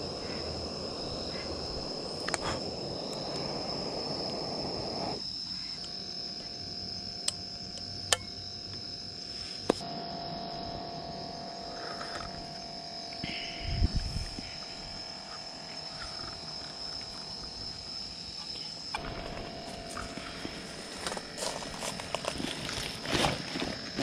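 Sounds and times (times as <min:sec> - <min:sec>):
insects calling high-pitched: 0:00.0 - 0:24.0.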